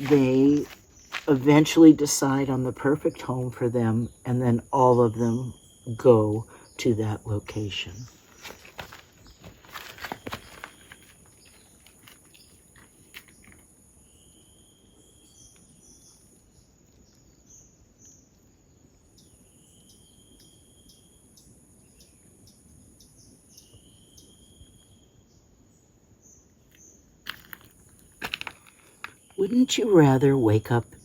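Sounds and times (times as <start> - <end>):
insect chorus buzzing: 0.0 - 31.0.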